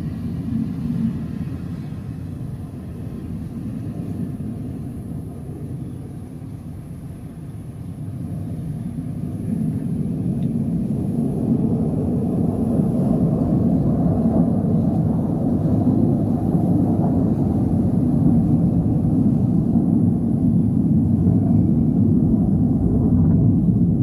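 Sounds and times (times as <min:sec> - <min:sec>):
airplane engine rumble: 0:00.0 - 0:24.0.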